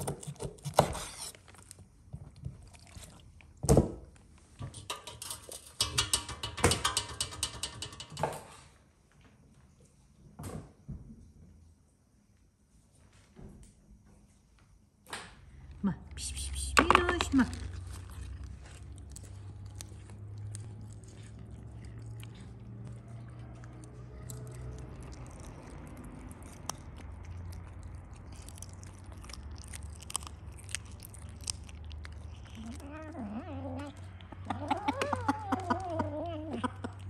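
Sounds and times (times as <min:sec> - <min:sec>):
cats chewing and crunching: 0:00.0 - 0:08.3, 0:15.6 - 0:37.0.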